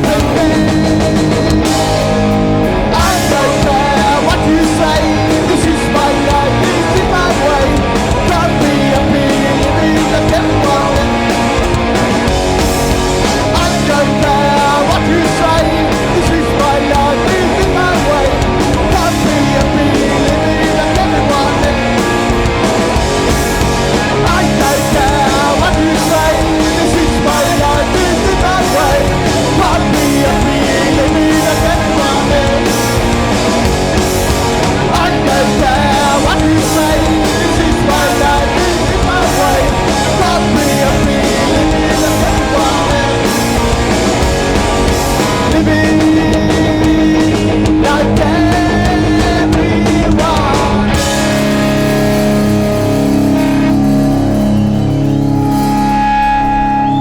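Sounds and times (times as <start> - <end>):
bass guitar: 0.0 - 57.0
electric guitars: 0.0 - 57.0
steady drum beat: 0.0 - 57.0.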